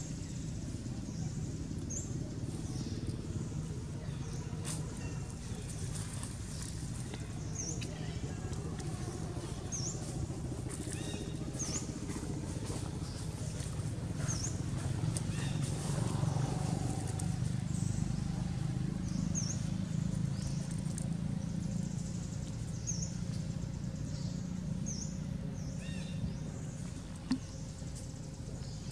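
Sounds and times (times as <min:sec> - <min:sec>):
low engine drone: 0:00.0 - 0:28.9.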